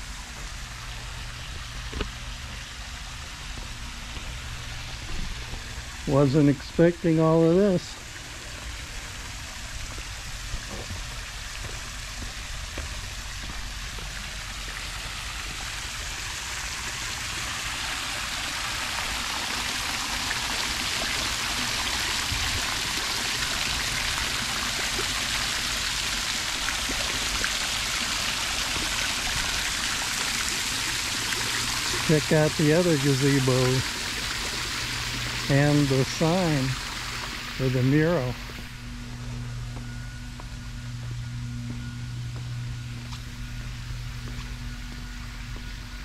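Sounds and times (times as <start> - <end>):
fountain water splashing: 0.0 - 38.7.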